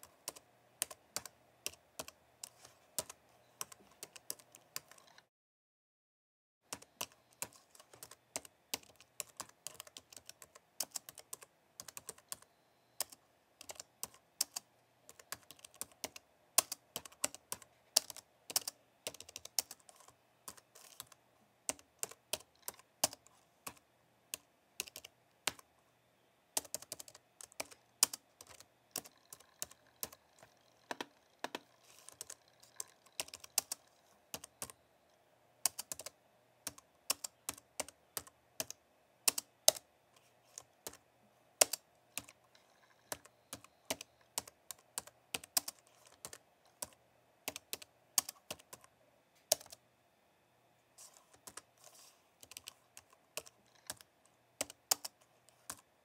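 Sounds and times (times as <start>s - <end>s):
typing on a keyboard: 0.0s - 5.2s, 6.7s - 23.8s, 24.4s - 25.6s, 26.6s - 34.8s, 35.7s - 39.8s, 41.6s - 48.9s, 49.5s - 49.8s, 51.3s - 51.6s, 52.4s - 55.8s.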